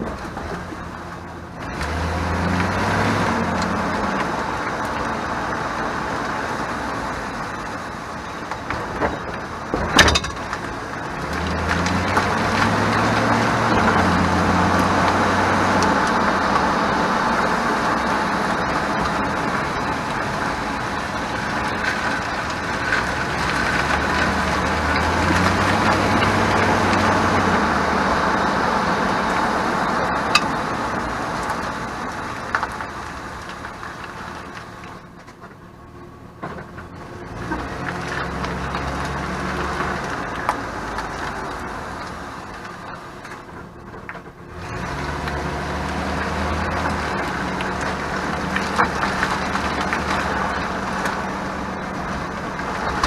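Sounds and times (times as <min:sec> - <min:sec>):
road and tyre noise: 0:00.0 - 0:53.0
truck engine pulling through gears: 0:00.0 - 0:53.0.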